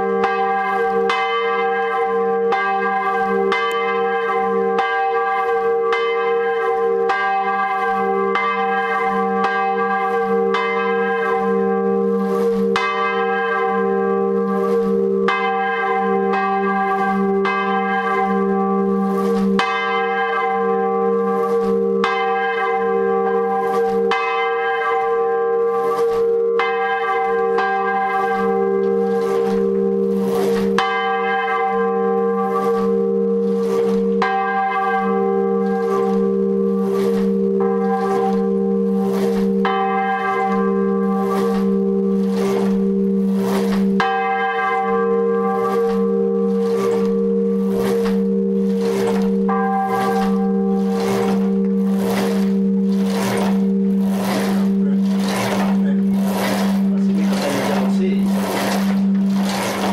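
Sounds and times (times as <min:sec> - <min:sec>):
church bell ringing: 0:00.0 - 0:59.9.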